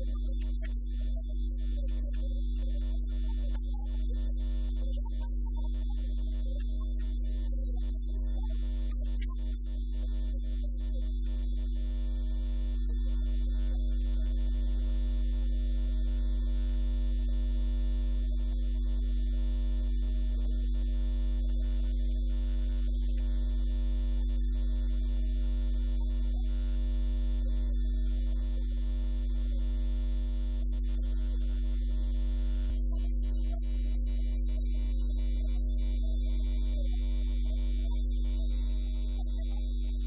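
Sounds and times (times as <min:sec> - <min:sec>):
electrical mains hum: 0:00.0 - 0:40.0.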